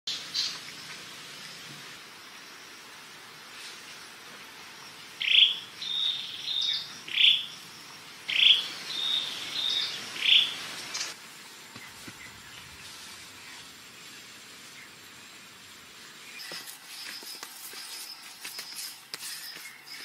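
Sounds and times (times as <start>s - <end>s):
songbird singing: 0.1s - 3.0s, 3.8s - 15.2s, 16.0s - 20.0s
steady background hiss: 0.1s - 20.0s.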